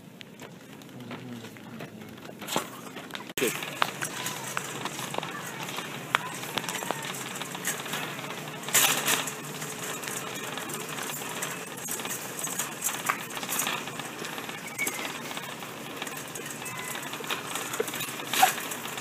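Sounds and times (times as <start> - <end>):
shop noise: 0.0 - 19.0
shopping cart rattling on concrete: 0.3 - 19.0.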